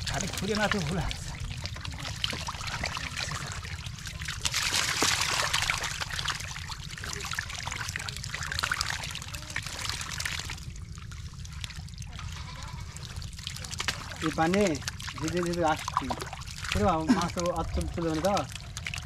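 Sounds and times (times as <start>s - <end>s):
wet mud splattering and sloshing: 0.0s - 19.0s.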